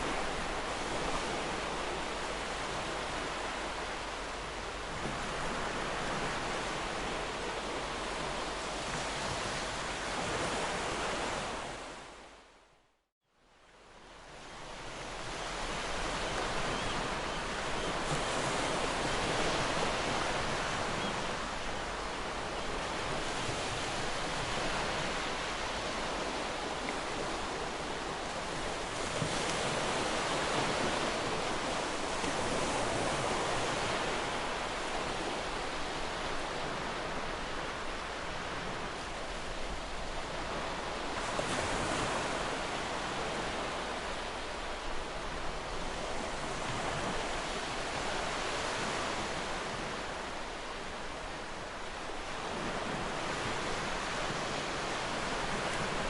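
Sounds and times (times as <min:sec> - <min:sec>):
ocean waves washing ashore: 0:00.0 - 0:12.7, 0:13.6 - 0:56.0.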